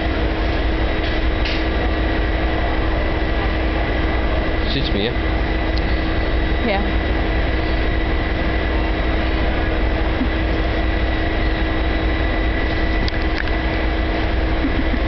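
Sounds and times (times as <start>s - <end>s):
train engine humming: 0.0s - 15.0s.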